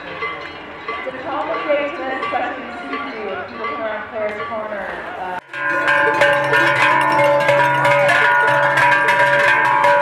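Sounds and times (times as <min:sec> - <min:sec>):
cowbells clanging: 0:00.0 - 0:10.0.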